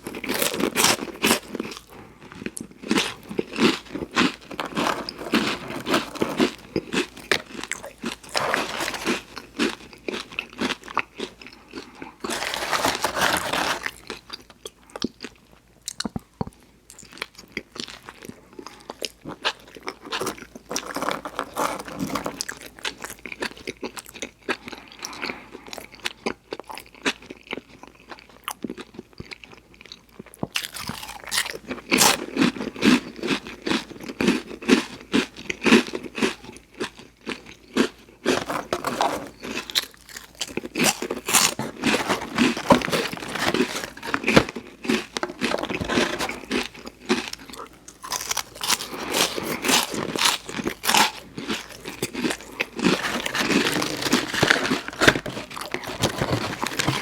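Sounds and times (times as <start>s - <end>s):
crunchy bites and chewing: 0.0s - 16.2s, 16.9s - 57.0s.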